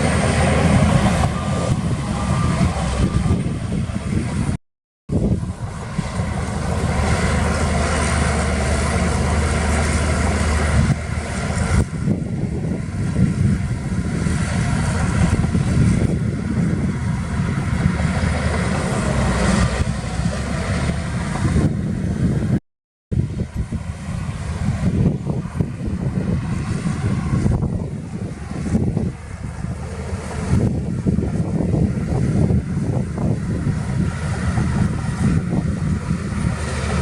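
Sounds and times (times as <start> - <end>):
diesel engine drone: 0.0 - 22.6, 23.2 - 37.0.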